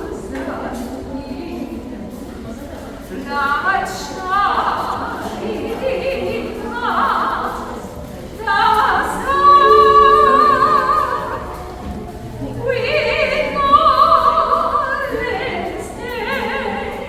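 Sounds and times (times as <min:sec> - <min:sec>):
operatic singing voice: 0:03.1 - 0:17.0.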